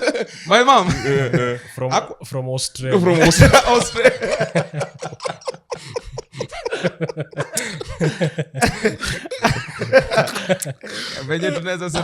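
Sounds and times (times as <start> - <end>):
men laughing: 0.0 - 1.7, 3.0 - 12.0.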